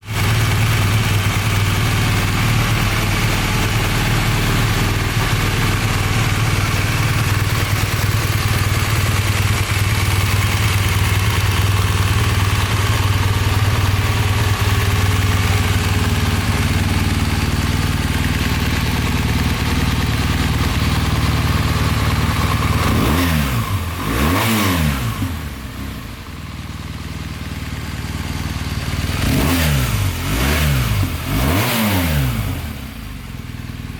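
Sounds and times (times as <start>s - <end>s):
motorcycle engine idling: 0.0s - 33.9s
motorcycle engine revving: 0.0s - 33.9s.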